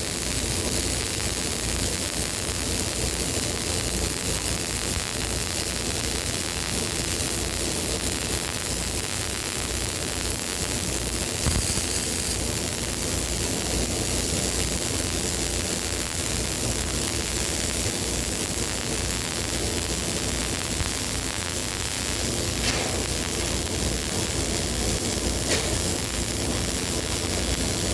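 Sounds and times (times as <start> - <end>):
steady hissing noise: 0.0 - 27.9.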